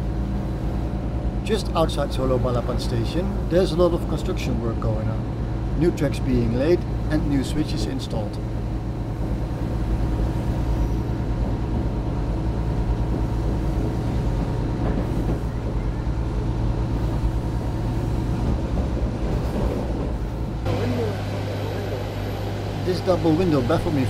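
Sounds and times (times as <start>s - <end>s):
train engine droning: 0.0s - 24.0s.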